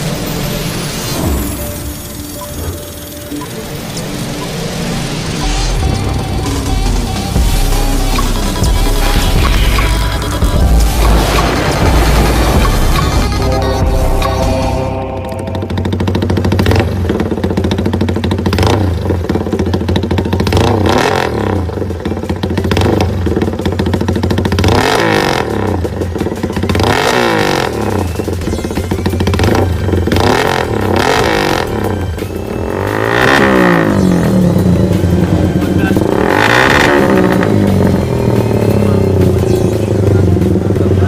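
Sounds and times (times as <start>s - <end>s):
motorcycle engine revving: 0.0s - 41.0s
exhaust popping cracks: 5.8s - 41.0s.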